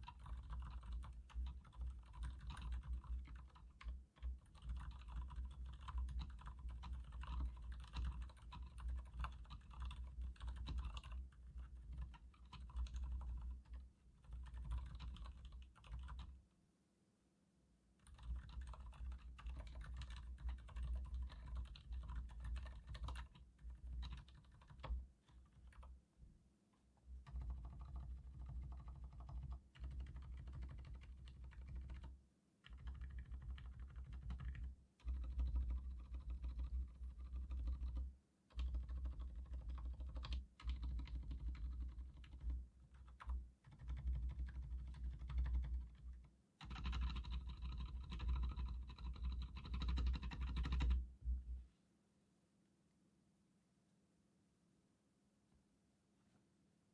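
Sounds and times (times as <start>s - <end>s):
mechanical keyboard typing: 0.0s - 16.3s, 18.0s - 25.9s, 27.2s - 51.0s.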